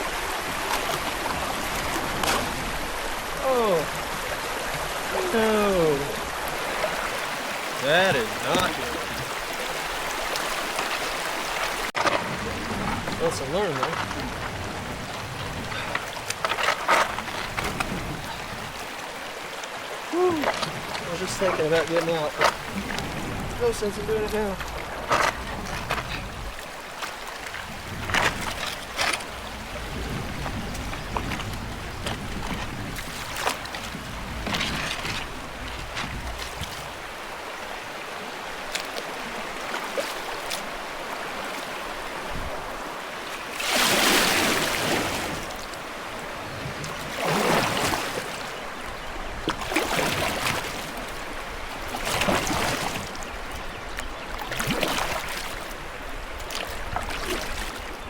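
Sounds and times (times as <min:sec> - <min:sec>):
moving river water: 0:00.0 - 0:58.0
paddle strokes splashing in water: 0:00.0 - 0:58.0.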